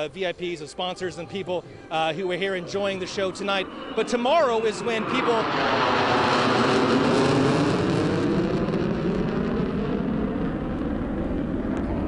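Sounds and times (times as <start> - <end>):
jet roar overhead: 0.0 - 12.0.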